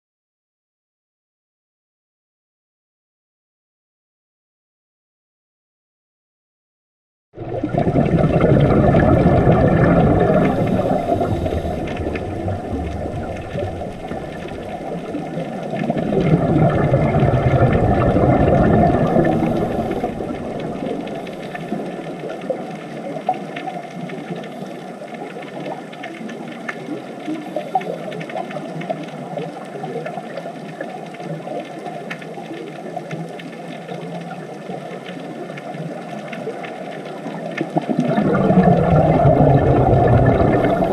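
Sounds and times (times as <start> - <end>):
deep underwater rumble: 7.4 - 40.9
faint crackles: 7.4 - 40.9
underwater rushing water: 7.4 - 40.9.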